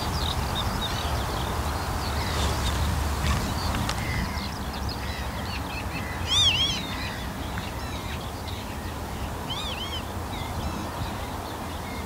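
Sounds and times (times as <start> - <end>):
bird rise-and-fall calls: 0.0 - 12.0
birds chirping: 0.0 - 12.0.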